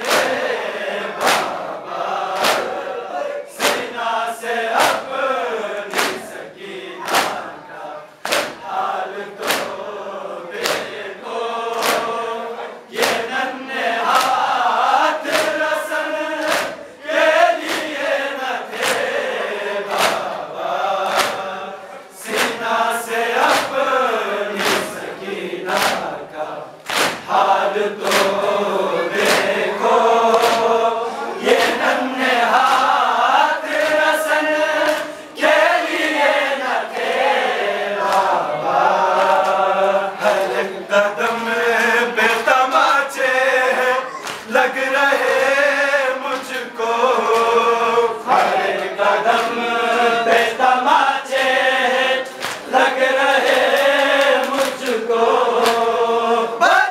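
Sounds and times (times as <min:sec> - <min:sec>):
men chanting in unison: 0:00.0 - 0:56.9
rhythmic chest-beating slaps: 0:00.0 - 0:56.9.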